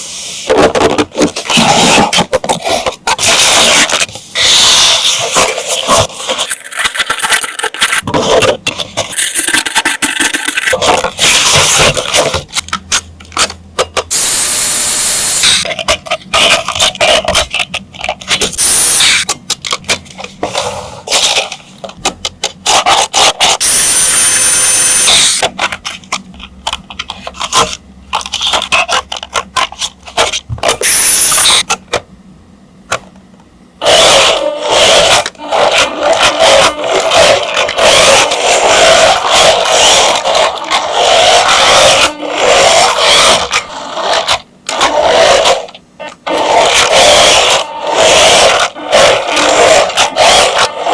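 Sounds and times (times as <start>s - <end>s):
plastic toy parts handled: 0.5s - 14.2s, 15.6s - 23.6s, 24.6s - 32.0s, 33.8s - 50.9s.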